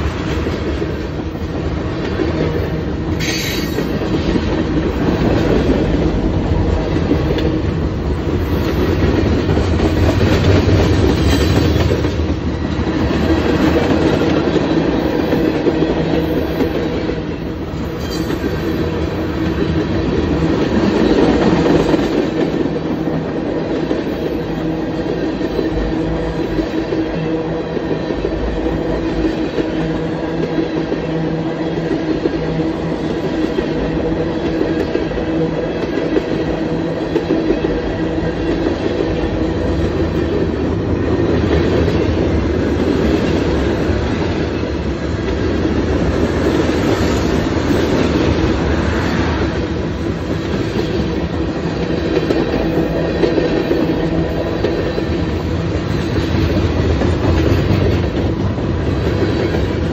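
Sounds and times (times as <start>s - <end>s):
freight train wheels rolling: 0.0s - 59.9s.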